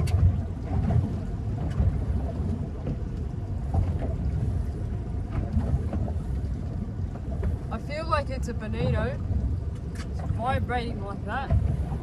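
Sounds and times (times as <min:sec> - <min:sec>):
water knocking against hull: 0:00.0 - 0:12.0
wind rumbling on microphone: 0:00.0 - 0:12.0.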